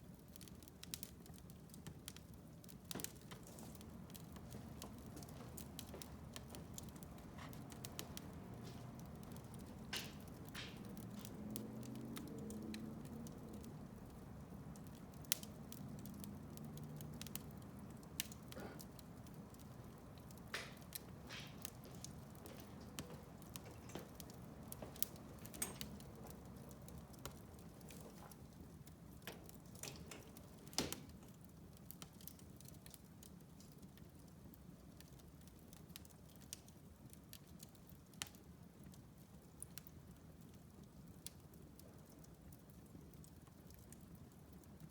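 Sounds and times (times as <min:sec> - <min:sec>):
low flame rumble: 0:00.0 - 0:44.9
wood fire crackling and popping: 0:00.0 - 0:44.9.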